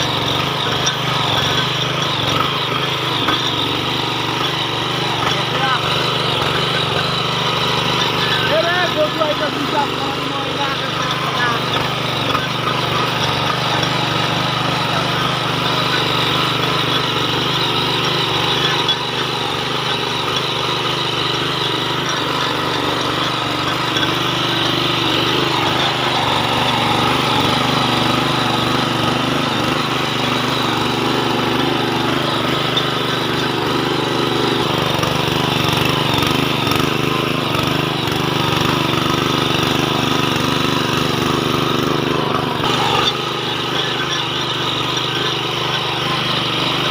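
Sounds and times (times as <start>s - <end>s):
tiller engine running: 0.0s - 46.9s.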